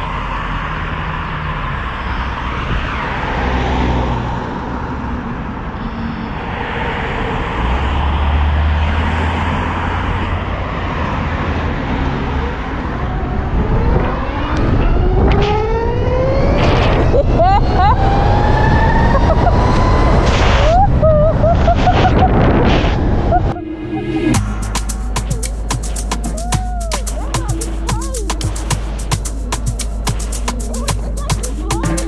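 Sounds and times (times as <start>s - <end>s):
road noise: 0.0s - 32.0s
wind rush: 5.2s - 31.9s.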